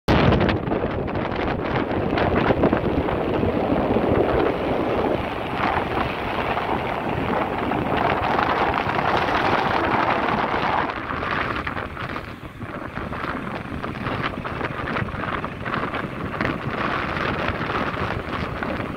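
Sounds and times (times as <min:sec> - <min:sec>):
motorcycle engine and road noise: 0:00.1 - 0:18.9
wind buffeting microphone: 0:00.1 - 0:18.9.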